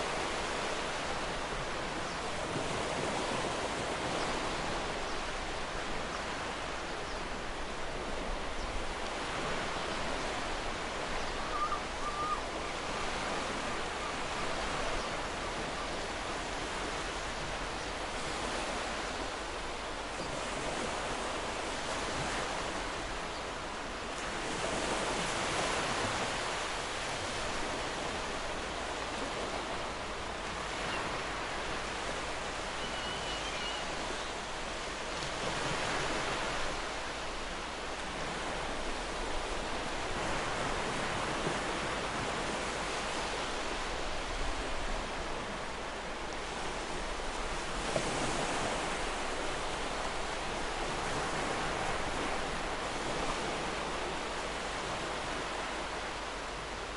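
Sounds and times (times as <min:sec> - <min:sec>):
waves breaking on shore: 0:00.0 - 0:56.9.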